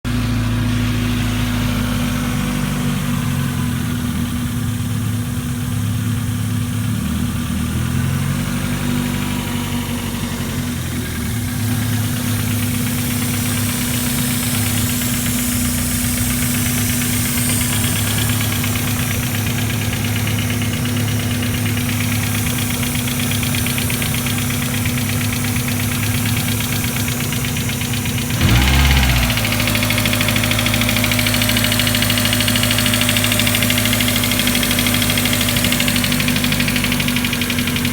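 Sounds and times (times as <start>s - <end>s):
car engine idling roughly: 0.1s - 37.9s.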